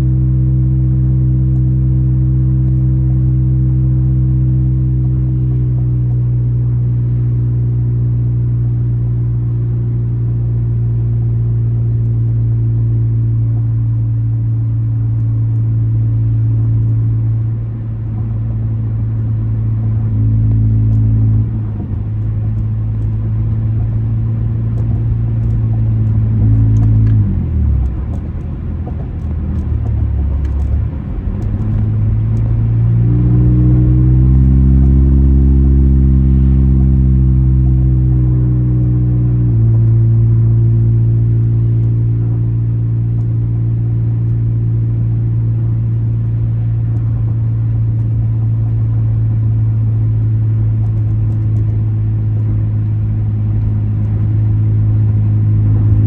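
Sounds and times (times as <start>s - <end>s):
car exhaust droning: 0.0s - 56.0s.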